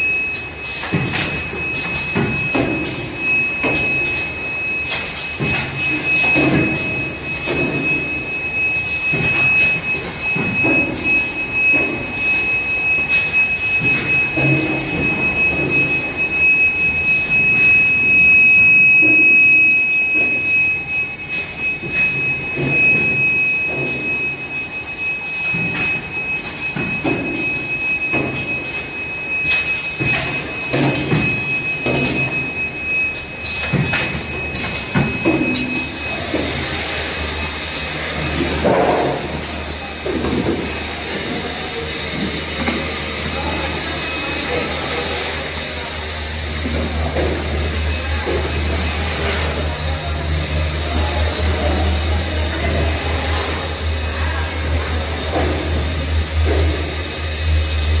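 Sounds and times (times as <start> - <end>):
steady high machine whine: 0.0 - 58.0.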